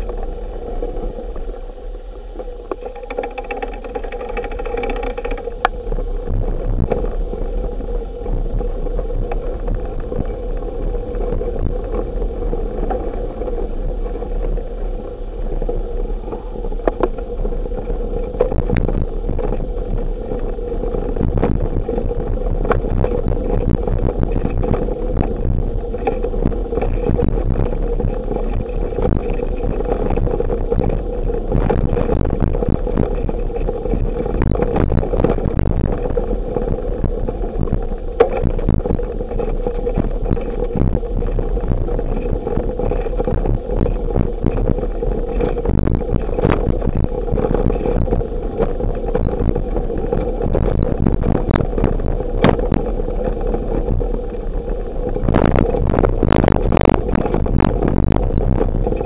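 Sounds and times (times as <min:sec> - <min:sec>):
bicycle knocks and rattles: 0:00.0 - 0:59.0
wind noise on microphone: 0:00.0 - 0:59.0.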